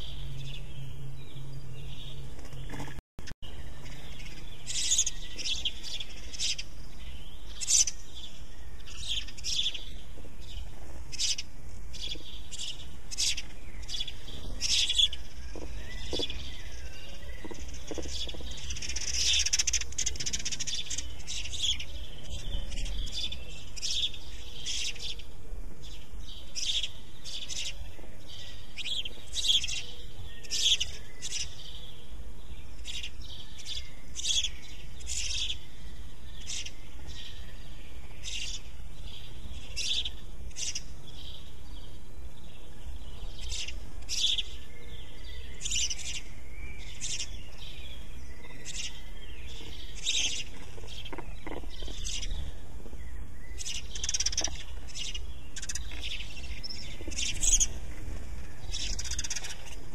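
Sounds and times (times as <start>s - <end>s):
sparrow chirping: 0.0s - 2.8s, 3.4s - 59.9s.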